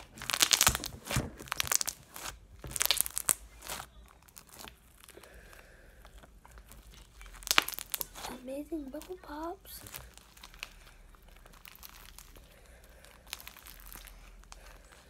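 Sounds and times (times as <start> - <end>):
crunchy slime crackling and popping: 0.0 - 15.0.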